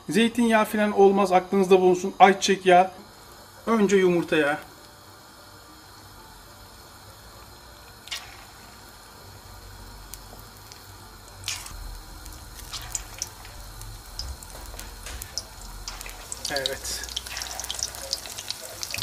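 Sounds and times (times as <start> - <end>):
oil sizzling and crackling: 3.0 - 19.0.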